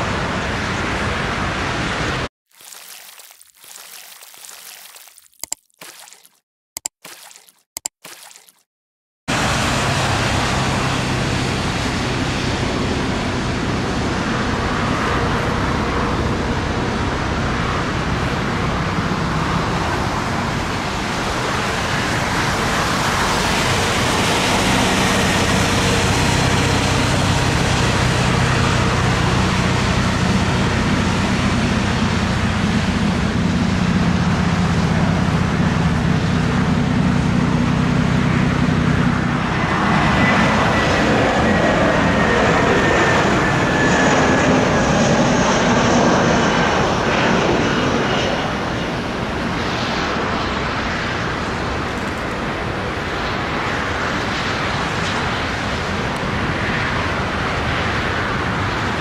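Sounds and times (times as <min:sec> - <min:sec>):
jet airliner engines running: 0:00.0 - 0:02.3, 0:09.3 - 0:59.0.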